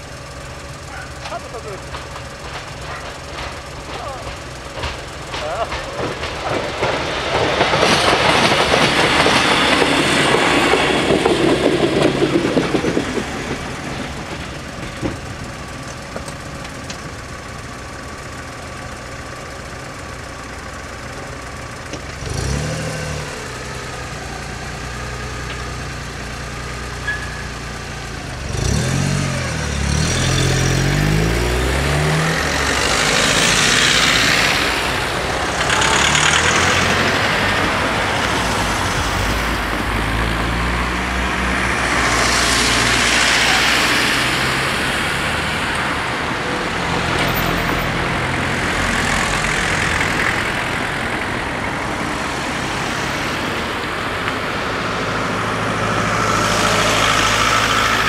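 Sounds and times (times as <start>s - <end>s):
engine revving: 0.0s - 15.8s, 21.9s - 58.0s
vehicles passing close: 0.0s - 58.0s.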